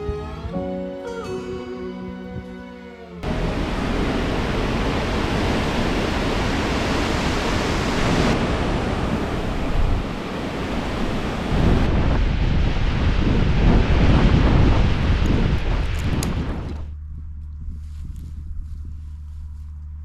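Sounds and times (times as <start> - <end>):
wind gusting against microphone: 3.2 - 19.6.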